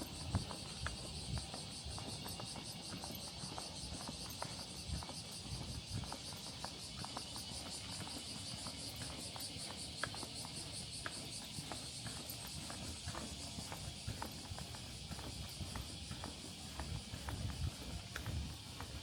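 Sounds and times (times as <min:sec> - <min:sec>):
footsteps: 0:00.0 - 0:19.0
insects chirping: 0:00.0 - 0:19.0.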